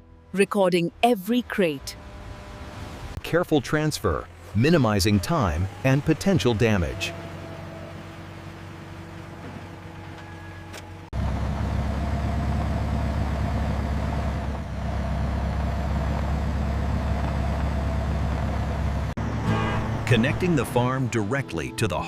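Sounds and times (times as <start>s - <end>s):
truck engine rumbling: 0.0s - 22.0s.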